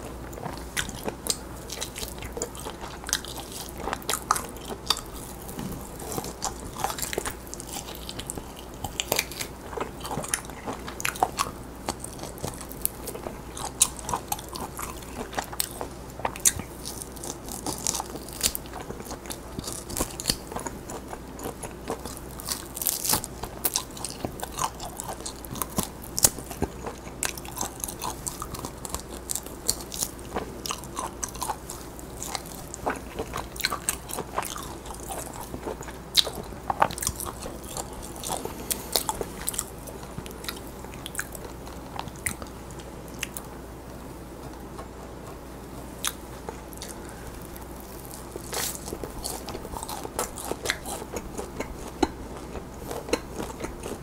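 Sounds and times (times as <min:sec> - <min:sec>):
chewing crisp roast meat: 0:00.0 - 0:54.0.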